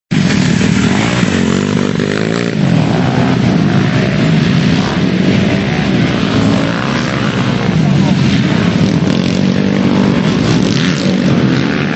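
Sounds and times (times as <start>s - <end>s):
motorcycle engines revving: 0.1s - 11.9s.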